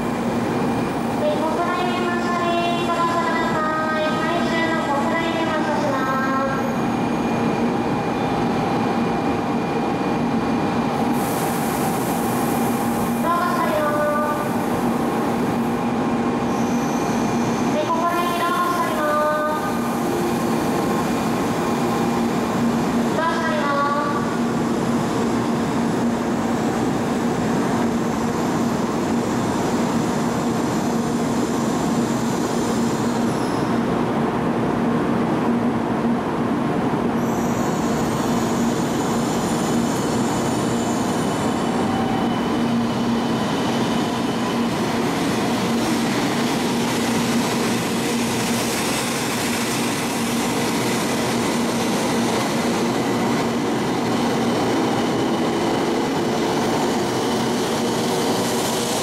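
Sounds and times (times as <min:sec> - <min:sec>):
train motors and wheels hissing: 0:03.2 - 0:34.2, 0:37.1 - 0:59.0.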